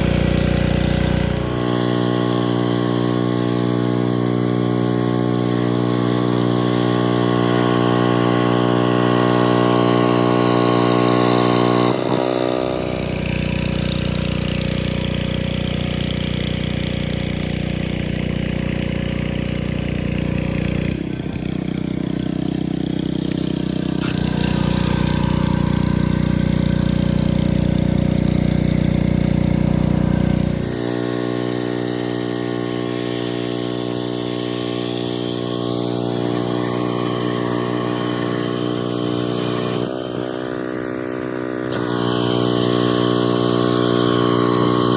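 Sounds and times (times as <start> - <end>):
pressure washer engine running: 0.0 - 44.9.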